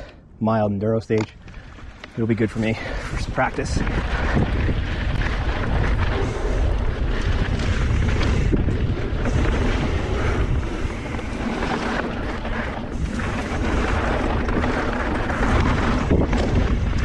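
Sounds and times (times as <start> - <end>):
bike rattling: 0.9 - 17.0
tyres rolling over dirt: 1.1 - 17.0
wind buffeting microphone: 1.2 - 17.0.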